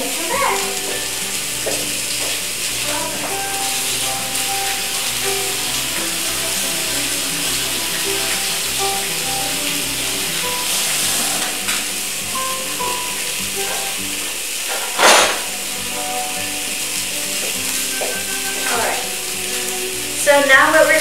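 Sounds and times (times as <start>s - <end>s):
background music: 0.0s - 21.0s
fish sizzling in a pan: 0.0s - 21.0s.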